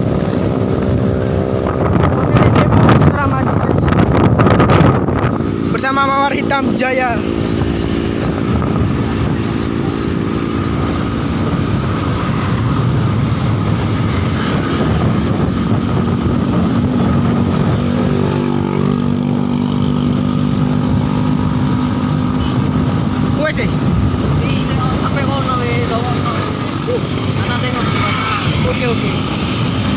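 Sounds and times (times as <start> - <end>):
motorcycle engine running: 0.0 - 29.9
wind and road noise: 0.0 - 29.9.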